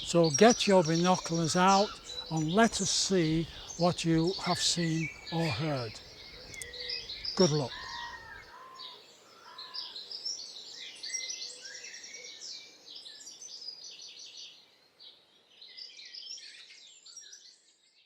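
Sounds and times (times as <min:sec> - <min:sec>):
songbirds twittering and trilling: 0:00.0 - 0:16.4.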